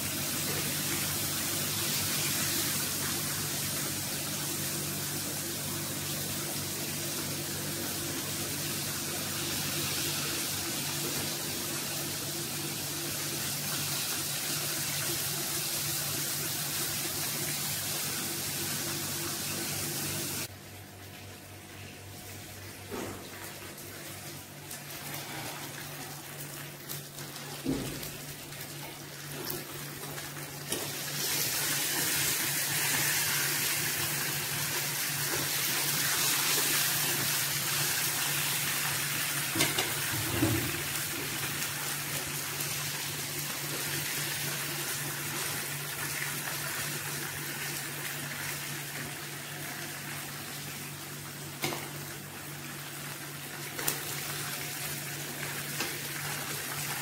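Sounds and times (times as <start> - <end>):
chicken sizzling in hot oil: 0.0 - 20.5, 23.9 - 57.0.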